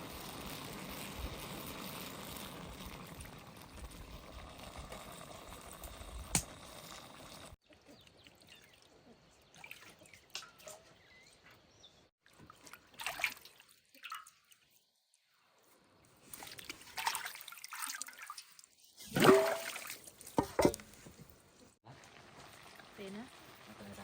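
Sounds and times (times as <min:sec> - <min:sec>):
water trickling and splashing: 0:00.0 - 0:11.0, 0:12.2 - 0:15.4, 0:16.2 - 0:20.7, 0:21.9 - 0:24.0.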